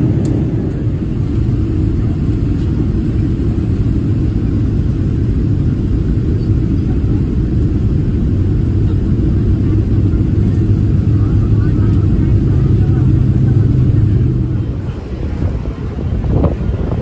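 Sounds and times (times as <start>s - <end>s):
vehicle rumble from inside: 0.0s - 17.0s.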